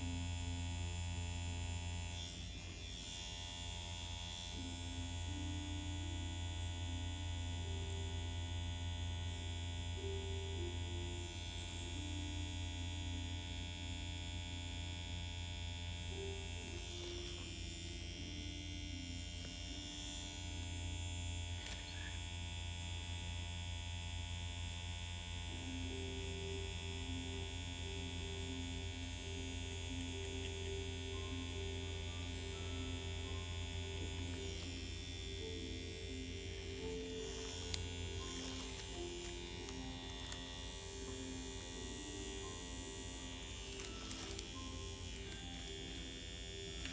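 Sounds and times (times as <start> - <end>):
makeup machine electric hum: 0.0 - 46.9
soft music: 0.0 - 46.9.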